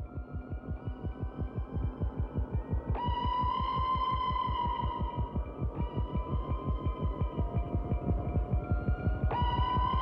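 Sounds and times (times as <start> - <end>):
low throbbing pulse: 0.0 - 10.0.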